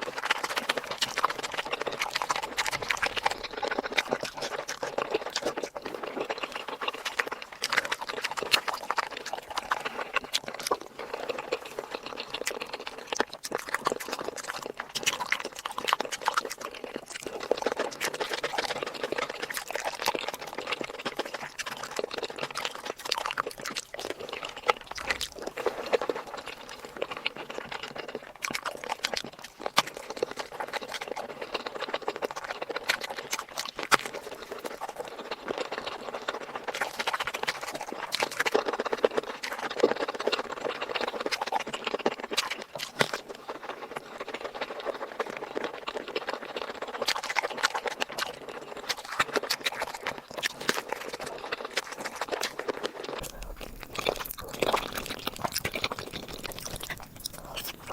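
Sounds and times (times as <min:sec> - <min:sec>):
mouth clicks and smacks: 0:00.0 - 0:57.9
person chewing food: 0:00.0 - 0:57.9.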